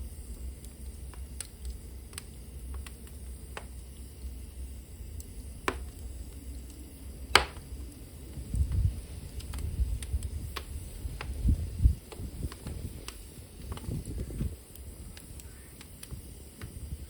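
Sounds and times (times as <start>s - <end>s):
low rumble of fire: 0.0s - 17.0s
wood fire crackling and popping: 0.0s - 17.0s.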